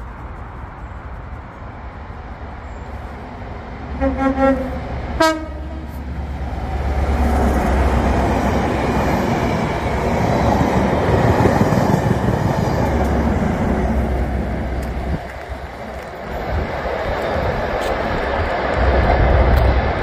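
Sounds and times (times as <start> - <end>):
train engine drone: 0.0 - 20.0
wheel-on-rail noise: 0.0 - 20.0.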